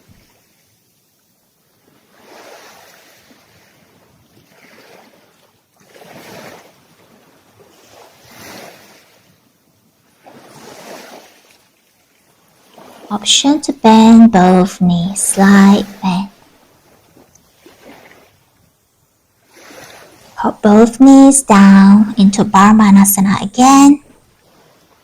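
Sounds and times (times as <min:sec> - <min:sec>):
small waves washing on shore: 0:00.0 - 0:14.6, 0:15.3 - 0:21.1, 0:24.3 - 0:25.0.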